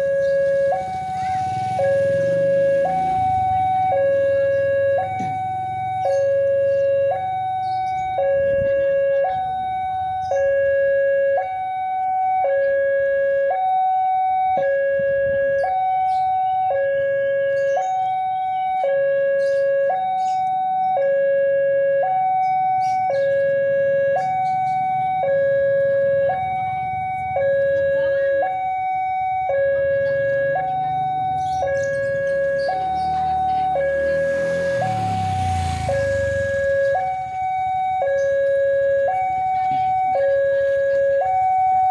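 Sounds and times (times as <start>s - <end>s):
level crossing two-tone alarm: 0.0s - 41.9s.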